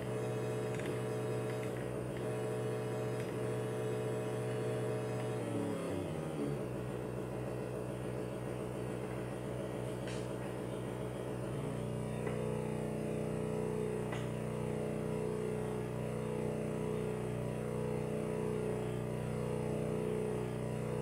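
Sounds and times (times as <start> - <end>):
synthesizer drone: 0.0 - 21.0.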